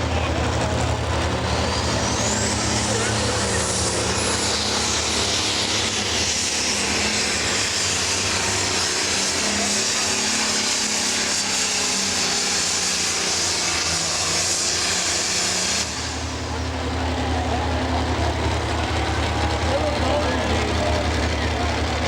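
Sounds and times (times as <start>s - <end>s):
diesel tractor engine at full power: 0.0s - 22.0s
high turbo whine: 0.0s - 22.0s.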